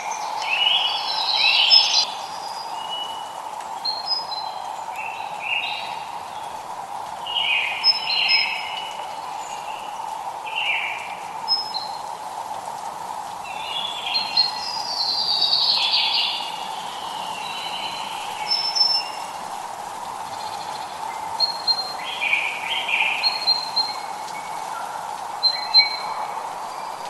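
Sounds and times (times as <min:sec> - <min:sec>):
light rain hiss: 0:00.0 - 0:27.0
songbirds chirping: 0:00.0 - 0:27.0.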